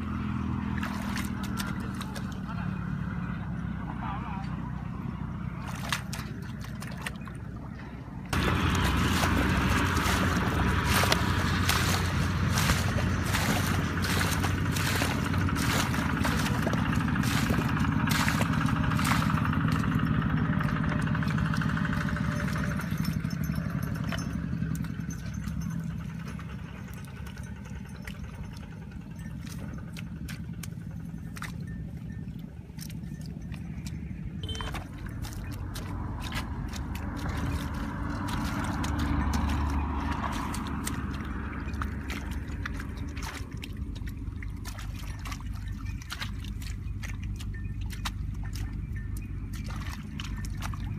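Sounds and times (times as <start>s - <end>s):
wet mud squelching: 0.0s - 50.9s.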